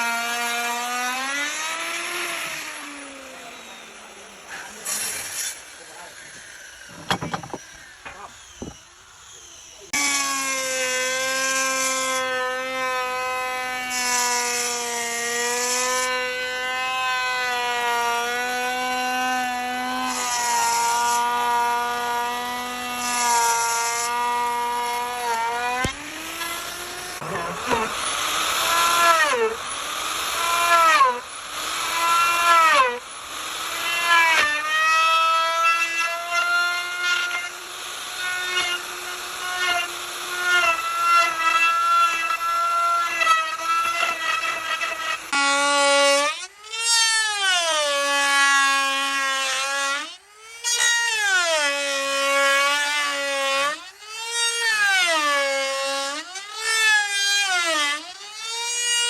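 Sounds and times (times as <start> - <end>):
power tool motor whining: 0.0 - 48.1
cutting wood: 0.0 - 59.0.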